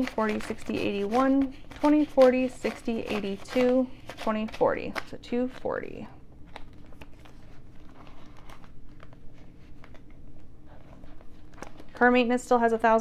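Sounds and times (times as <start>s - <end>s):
page turning: 0.0s - 5.7s, 6.5s - 12.0s
rustling of vinyl pouches and paper: 0.0s - 12.3s.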